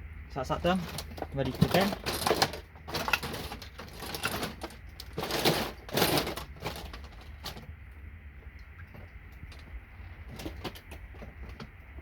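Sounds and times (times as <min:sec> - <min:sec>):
handling rustling and clatter: 0:00.6 - 0:07.8, 0:08.8 - 0:12.0.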